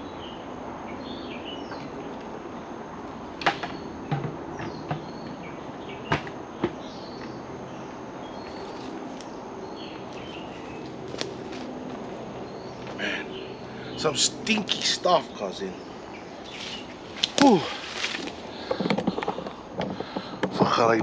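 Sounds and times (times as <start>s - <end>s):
birds chirping: 0.0s - 21.0s
forest background: 0.0s - 21.0s.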